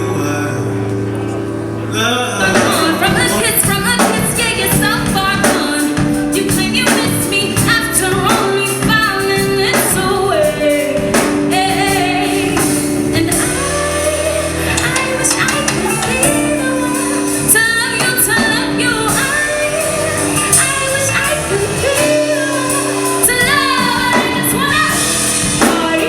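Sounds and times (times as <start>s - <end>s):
live band backing: 0.0s - 26.0s
person singing: 0.0s - 26.0s
steady drum beat: 2.4s - 26.0s.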